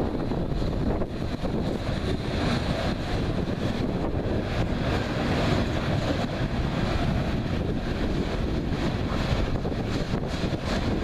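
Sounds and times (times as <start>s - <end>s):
freight train wheels rumbling: 0.0s - 11.0s
wind buffeting microphone: 0.0s - 11.0s.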